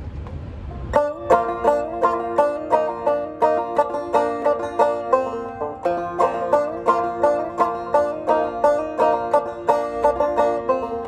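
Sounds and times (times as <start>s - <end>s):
banjo played clawhammer style: 0.7s - 11.0s.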